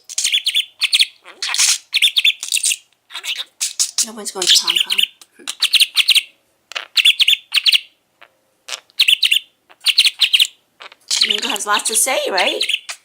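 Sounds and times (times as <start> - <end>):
budgerigar chattering: 0.2 - 8.0, 8.7 - 13.0.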